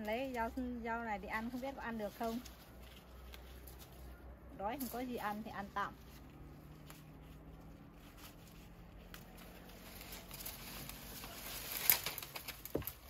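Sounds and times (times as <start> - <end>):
leaves and stems rustling: 0.0 - 13.0.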